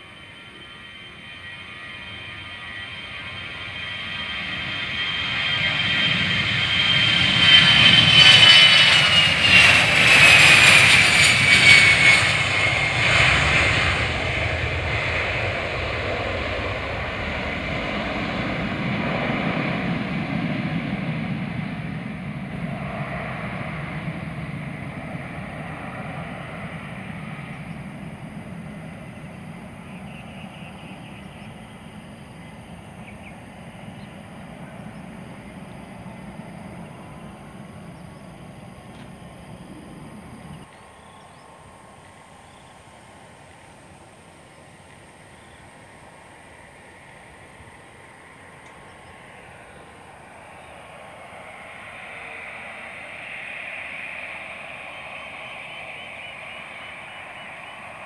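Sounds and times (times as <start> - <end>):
aircraft passing with whine: 0.0 - 58.0.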